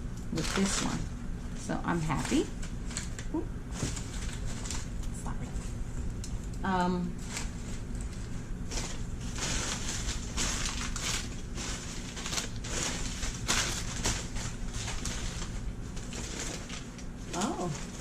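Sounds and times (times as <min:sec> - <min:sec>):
packaging rustling and crinkling: 0:00.3 - 0:18.0.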